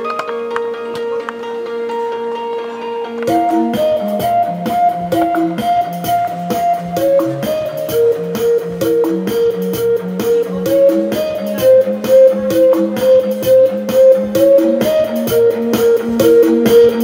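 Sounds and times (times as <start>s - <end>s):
instrumental music with guitar: 0.0s - 17.0s.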